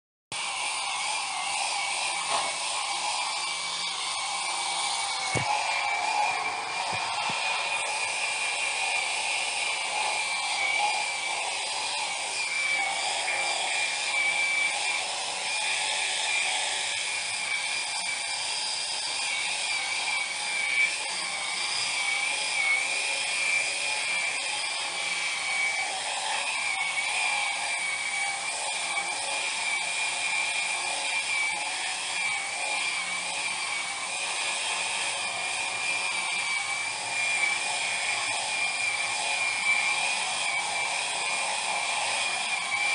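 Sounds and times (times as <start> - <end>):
electric epilator motor whine: 0.4 - 42.9.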